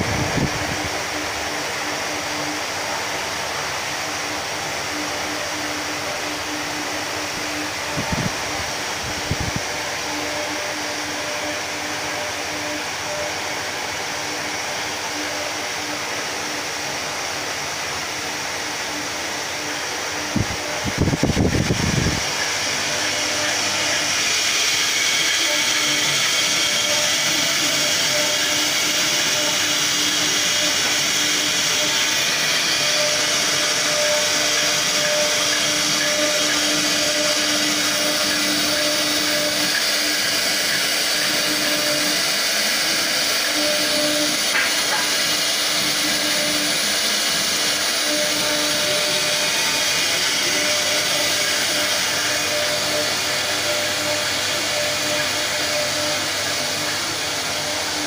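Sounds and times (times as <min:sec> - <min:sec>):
ceiling fan whirring: 0:00.0 - 0:58.0.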